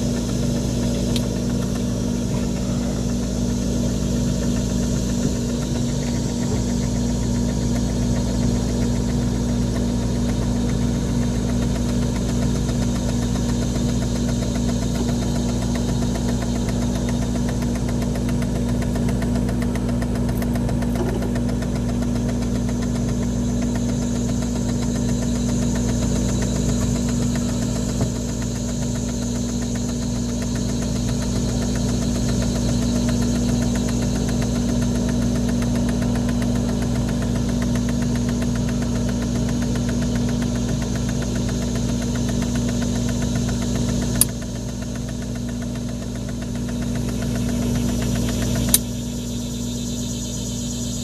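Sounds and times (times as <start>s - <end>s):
ice maker motor humming: 0.0s - 51.0s.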